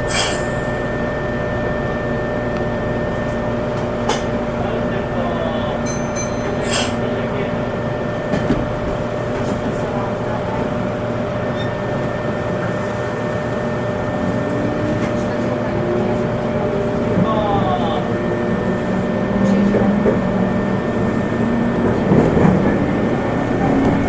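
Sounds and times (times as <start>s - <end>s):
train motor hum: 0.0s - 24.0s
train wheels rumbling on rail: 0.0s - 24.0s.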